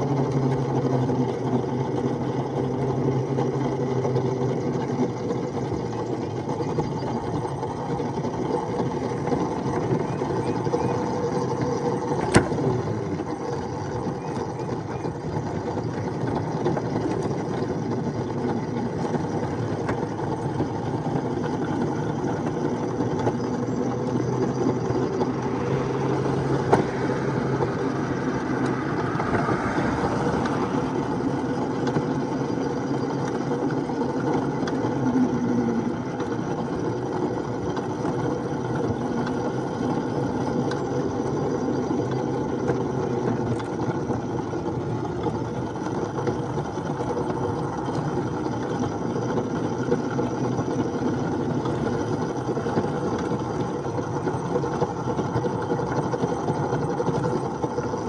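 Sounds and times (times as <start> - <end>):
miniature train engine drone: 0.0 - 58.0.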